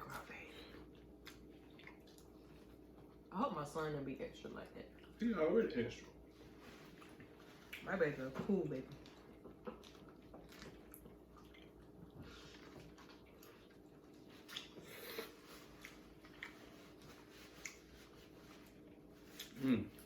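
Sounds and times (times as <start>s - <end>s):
low room hum: 0.0s - 20.0s
quiet chewing: 0.1s - 3.3s, 4.8s - 5.3s, 5.9s - 20.0s.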